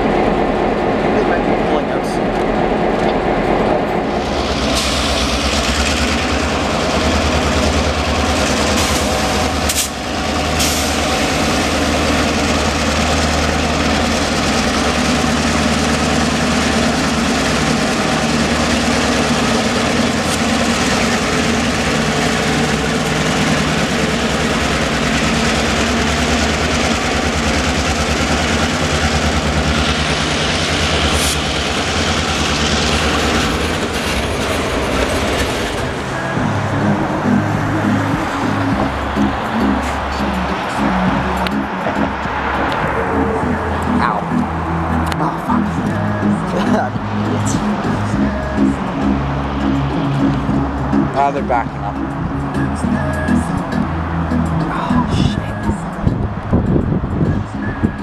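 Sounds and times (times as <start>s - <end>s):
train wheels on rails: 0.0s - 51.6s
locomotive engine drone: 0.0s - 58.0s.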